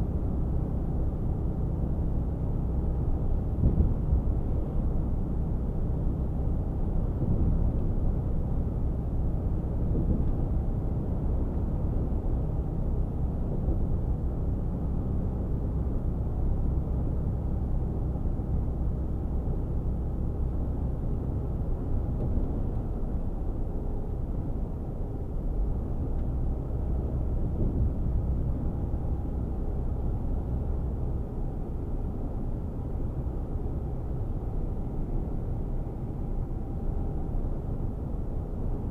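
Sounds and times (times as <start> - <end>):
truck engine and road drone: 0.0 - 38.9.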